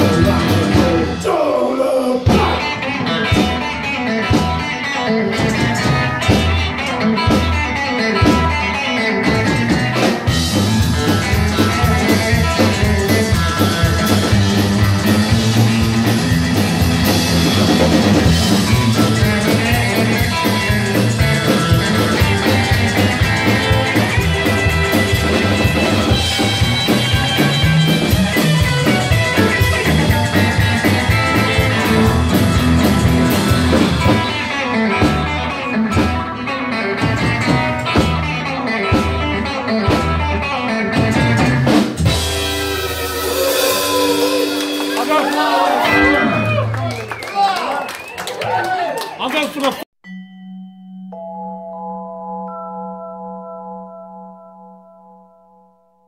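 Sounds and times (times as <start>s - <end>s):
drum kit: 0.0s - 47.2s
rockabilly guitar: 0.0s - 48.4s.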